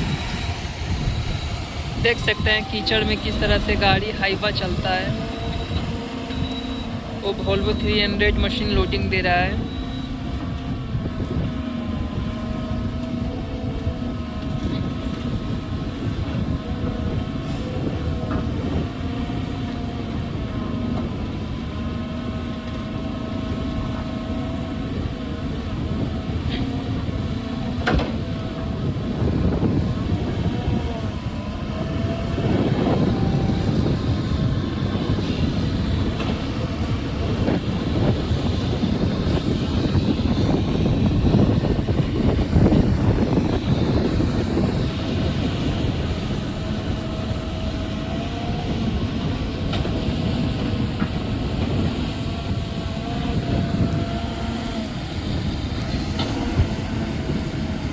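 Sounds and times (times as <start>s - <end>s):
excavator diesel engine working: 0.0s - 57.9s.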